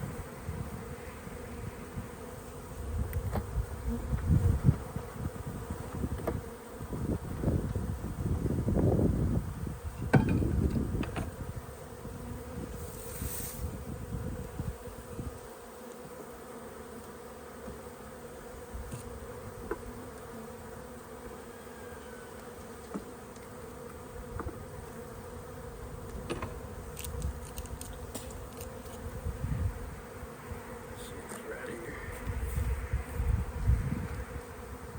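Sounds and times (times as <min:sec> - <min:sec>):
honeybees humming: 0:00.0 - 0:34.9.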